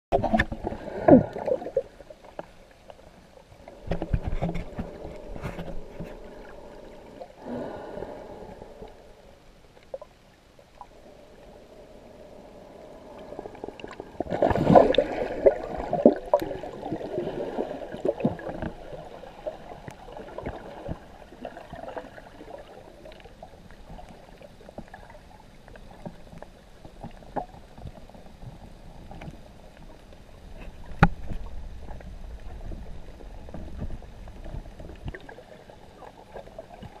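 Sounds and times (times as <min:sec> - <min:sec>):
water sloshing underwater: 0:00.1 - 0:37.0.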